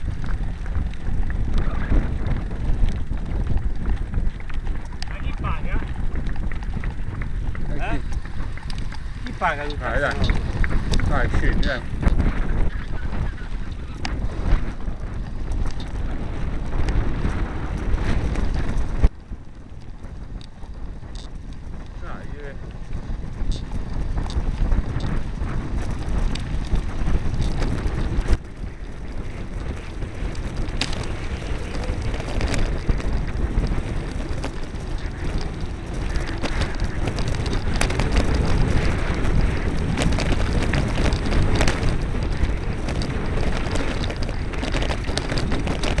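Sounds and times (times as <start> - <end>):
bike knocks and rattles: 0.0 - 46.0
bike tyre rumble: 0.0 - 46.0
wind buffeting microphone: 0.0 - 46.0.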